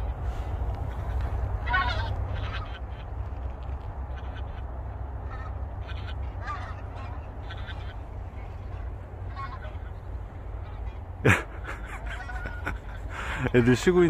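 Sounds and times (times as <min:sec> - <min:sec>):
waterfowl honking: 0:00.0 - 0:03.3, 0:04.0 - 0:14.0.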